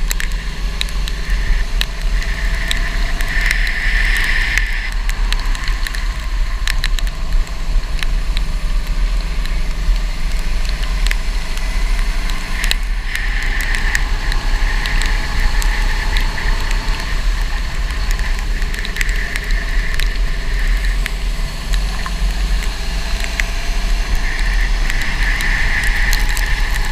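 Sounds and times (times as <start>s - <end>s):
go-kart engine drone: 0.0s - 26.9s.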